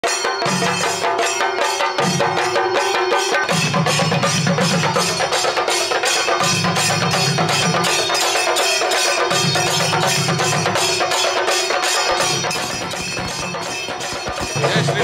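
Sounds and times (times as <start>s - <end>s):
fast drum strokes: 0.0s - 15.0s.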